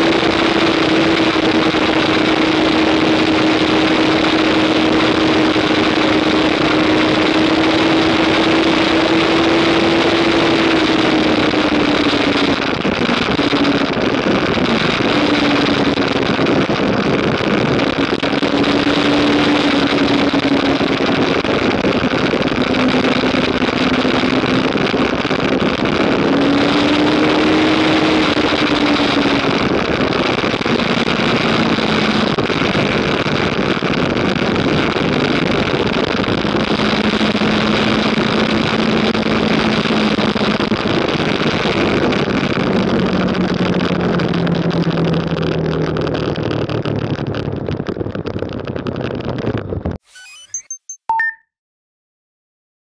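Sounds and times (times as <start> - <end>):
motorcycle engine running hard: 0.0 - 50.0
wind on microphone: 0.0 - 50.0.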